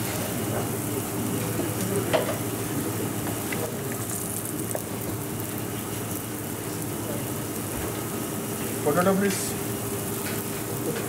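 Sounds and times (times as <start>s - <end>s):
batter sizzling on griddle: 0.0s - 11.0s.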